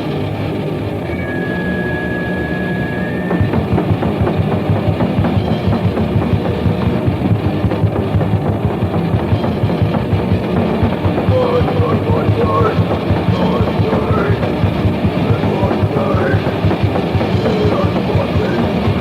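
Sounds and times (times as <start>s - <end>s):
bass guitar: 0.0s - 19.0s
distorted guitar: 0.0s - 19.0s
punk band playing: 0.0s - 19.0s
fast pounding drum beat: 2.9s - 19.0s.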